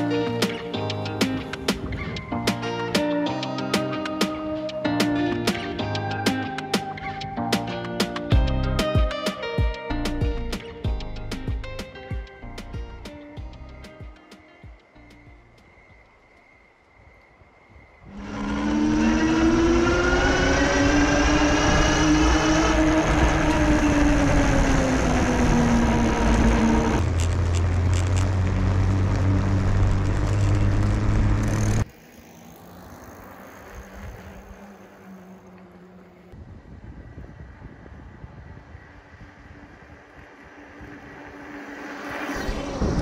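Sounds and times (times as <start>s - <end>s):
electric bike humming past: 0.0s - 7.5s, 12.2s - 43.0s
faint wind: 0.0s - 8.7s, 9.4s - 43.0s.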